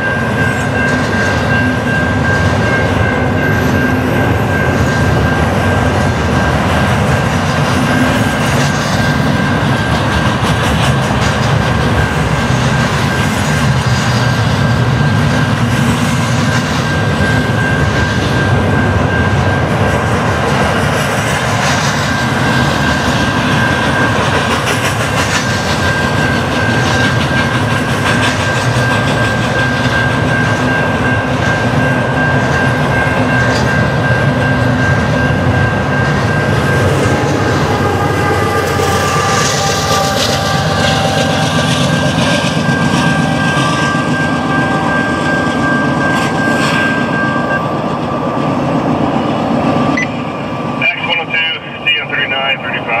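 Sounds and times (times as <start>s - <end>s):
freight train rumbling: 0.0s - 53.0s
steady high-pitched tone: 0.0s - 53.0s
wheels clacking on rails: 0.0s - 53.0s.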